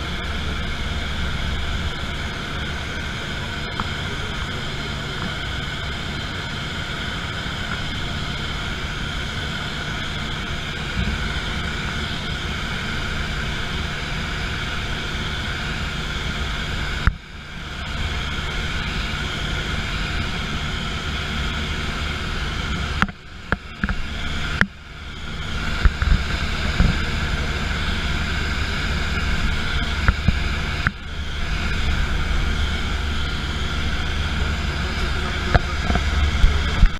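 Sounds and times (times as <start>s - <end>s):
aircraft engine drone: 0.0s - 36.9s.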